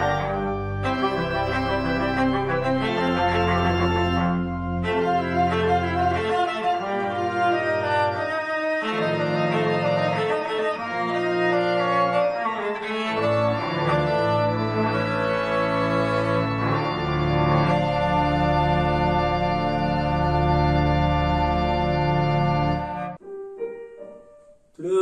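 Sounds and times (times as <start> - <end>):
cello bowed melody: 0.0 - 23.2.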